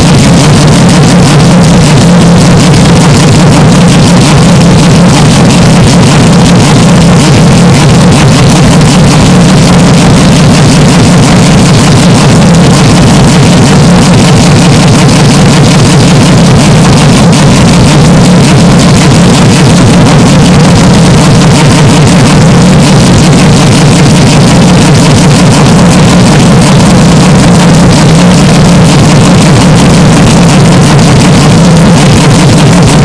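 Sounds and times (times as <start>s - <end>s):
distorted race car engine roar: 0.0s - 33.0s.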